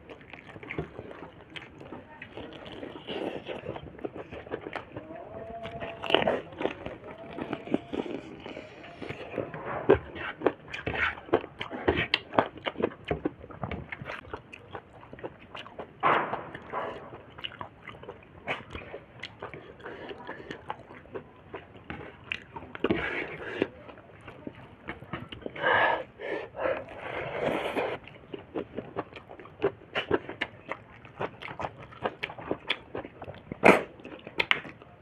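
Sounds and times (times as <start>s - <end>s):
person chewing and crunching food: 0.0s - 35.0s.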